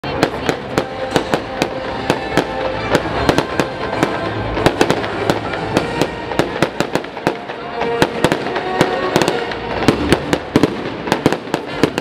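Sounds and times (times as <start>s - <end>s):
fireworks crackle: 0.0s - 12.0s.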